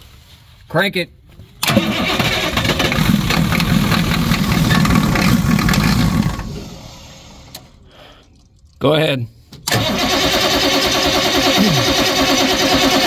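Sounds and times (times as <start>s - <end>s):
diesel engine cranking on starter: 1.6s - 8.8s, 9.5s - 13.0s.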